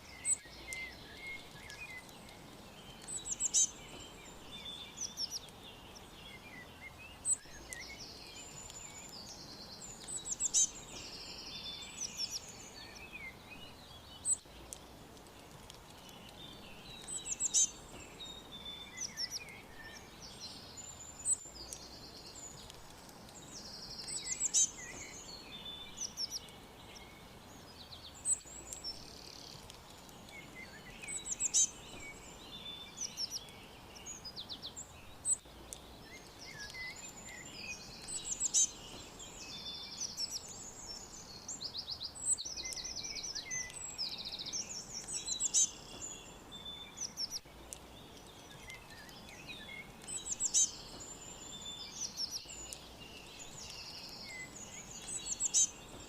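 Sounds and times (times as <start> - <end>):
low background hiss: 0.0 - 56.0
small birds chirping and singing: 0.0 - 56.0.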